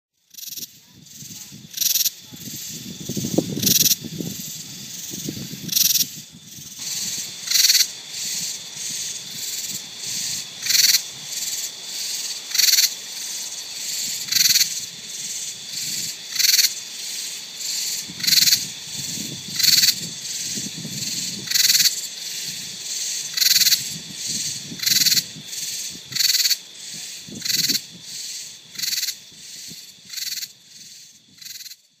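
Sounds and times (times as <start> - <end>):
katydids calling: 0.3 - 31.8.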